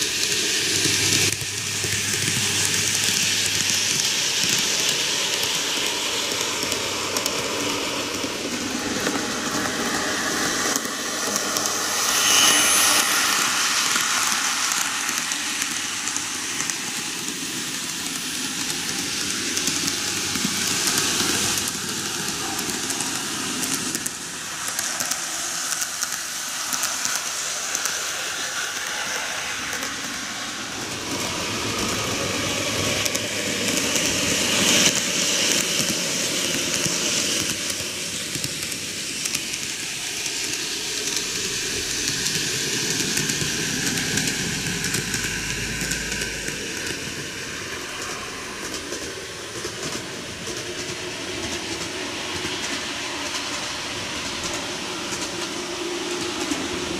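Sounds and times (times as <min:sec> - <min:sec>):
model train wheels rattling: 0:00.0 - 0:56.9.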